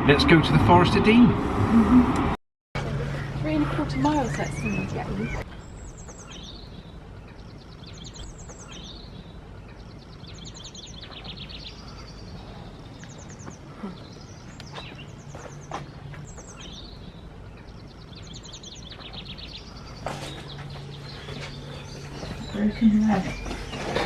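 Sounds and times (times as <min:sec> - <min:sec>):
steady low background noise: 0:00.0 - 0:24.0
songbirds singing: 0:02.8 - 0:24.0.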